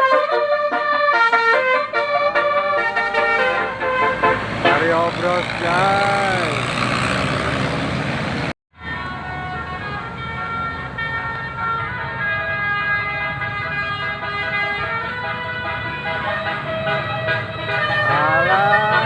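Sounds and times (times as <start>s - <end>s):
musical bus horn playing a tune: 0.0s - 6.5s, 8.8s - 19.0s
rushing vehicle noise: 0.0s - 19.0s.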